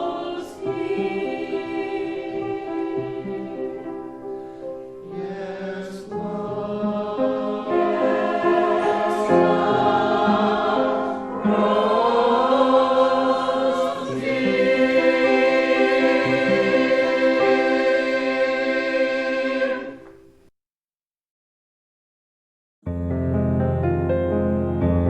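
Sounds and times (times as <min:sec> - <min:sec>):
choir singing a hymn: 0:00.0 - 0:20.3.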